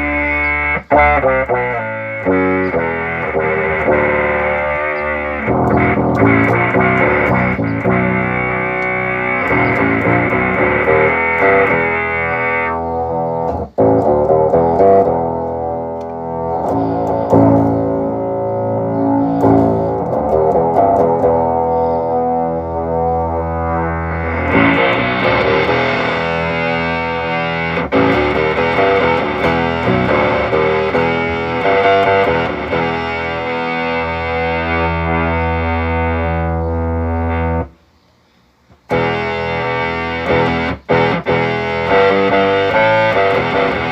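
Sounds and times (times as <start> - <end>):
sustained synth notes: 0.0 - 37.7, 38.9 - 43.9.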